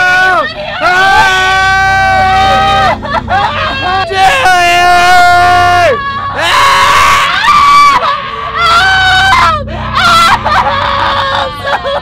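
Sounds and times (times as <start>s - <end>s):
person screaming in terror: 0.0s - 12.0s.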